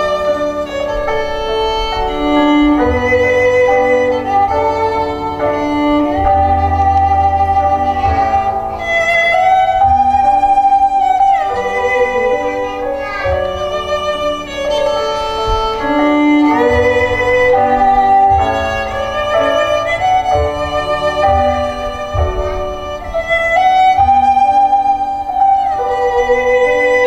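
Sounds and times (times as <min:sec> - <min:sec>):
instrumental music with sliding notes: 0:00.0 - 0:27.0.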